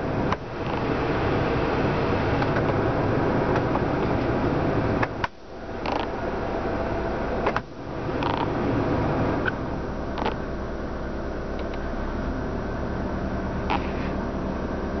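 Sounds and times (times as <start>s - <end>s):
heater blower running: 0.0s - 15.0s
low engine hum: 0.0s - 15.0s.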